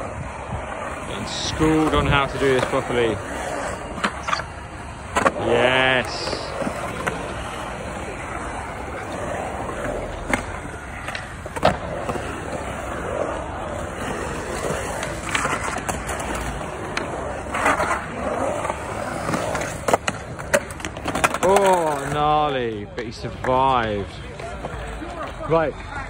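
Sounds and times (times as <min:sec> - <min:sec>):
skateboard clacks: 0:00.0 - 0:26.0
skateboard wheels rumbling on concrete: 0:00.0 - 0:26.0.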